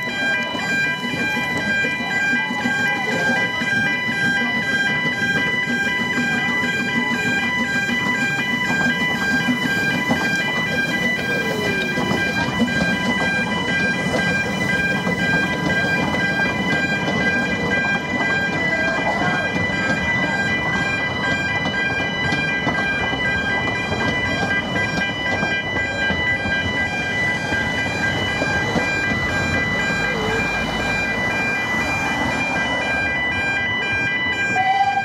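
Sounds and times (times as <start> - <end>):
level crossing alarm tone: 0.0 - 35.0
train carriages rumbling: 0.0 - 35.0.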